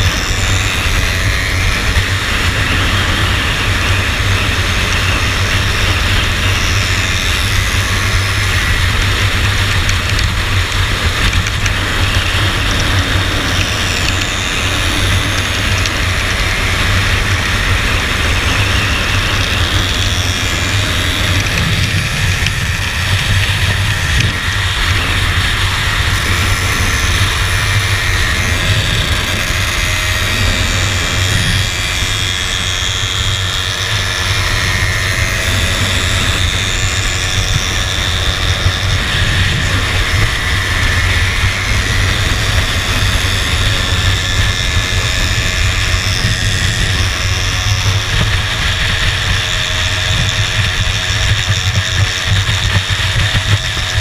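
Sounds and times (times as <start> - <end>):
scooter engine running: 0.0 - 54.0
wind buffeting microphone: 0.0 - 54.0.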